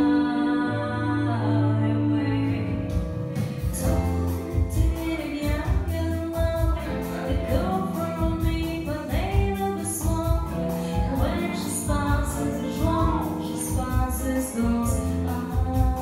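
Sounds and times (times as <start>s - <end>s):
woman singing through microphone: 0.0s - 3.0s, 3.7s - 16.0s
keyboard accompaniment: 0.0s - 16.0s
steady beat and bass line: 2.7s - 16.0s.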